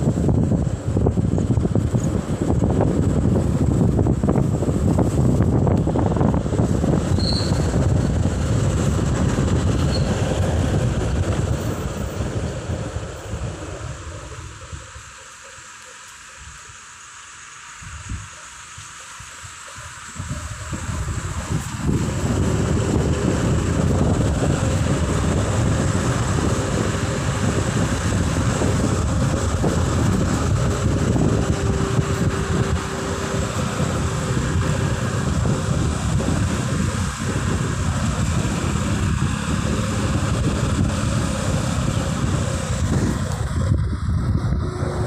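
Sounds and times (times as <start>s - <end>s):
wind on microphone: 0.0s - 15.2s, 17.8s - 45.0s
motorbike engine and road noise: 0.0s - 16.8s, 17.6s - 45.0s.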